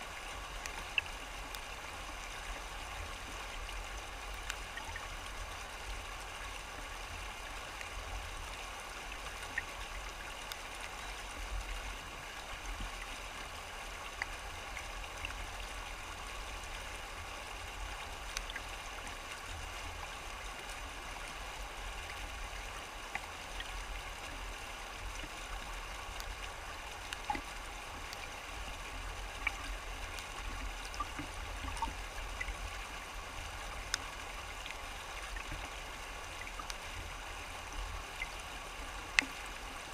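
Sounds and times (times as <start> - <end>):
water splashing ticks: 0.1 - 39.9.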